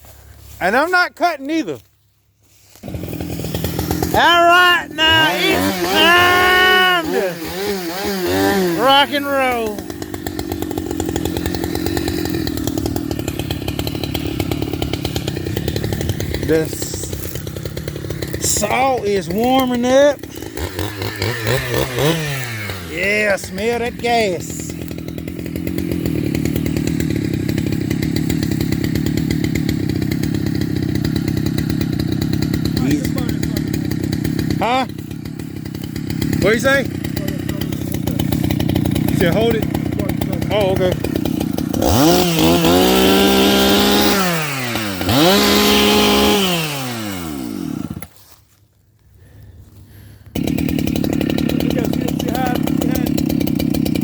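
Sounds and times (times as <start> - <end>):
chainsaw engine idling: 0.0 - 54.0.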